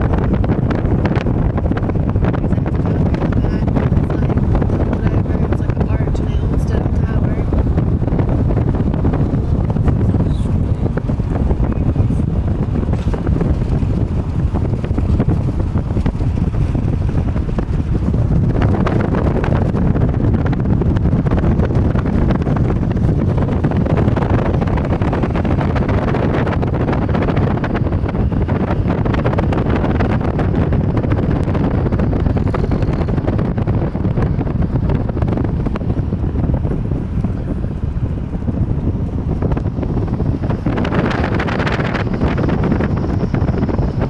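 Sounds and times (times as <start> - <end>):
road noise from a car: 0.0 - 44.0
wind buffeting microphone: 0.0 - 44.0.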